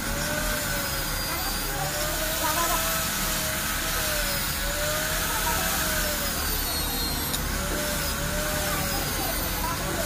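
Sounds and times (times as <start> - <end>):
electric drill whining: 0.0 - 10.0.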